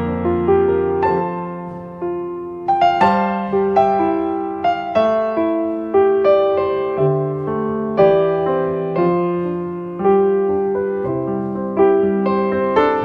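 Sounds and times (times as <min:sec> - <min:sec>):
slow gentle piano piece: 0:00.0 - 0:13.0.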